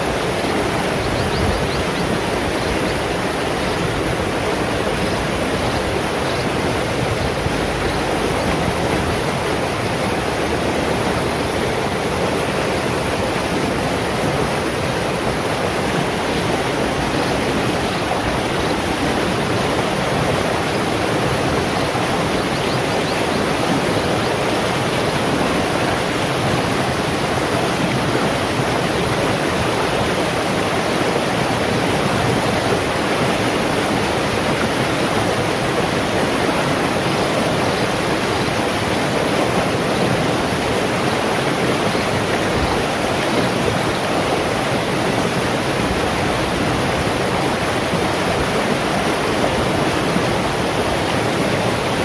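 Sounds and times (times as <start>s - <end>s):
stream rushing over stones: 0.0s - 52.0s.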